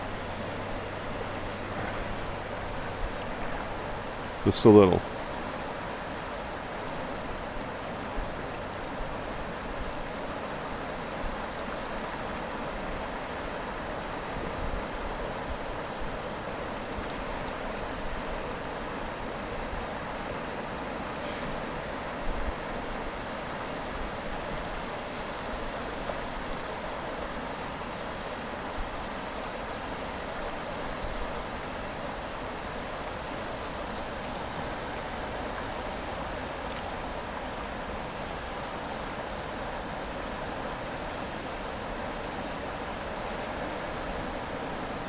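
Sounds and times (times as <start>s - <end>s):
river water rushing over rocks: 0.0s - 45.0s.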